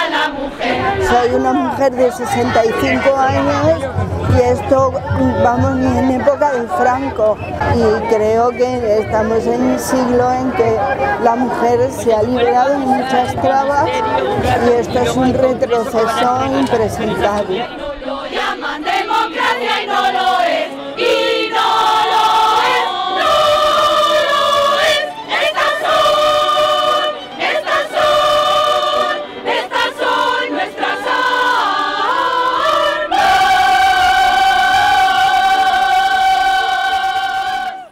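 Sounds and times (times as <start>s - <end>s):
women singing in chorus: 0.0s - 37.9s.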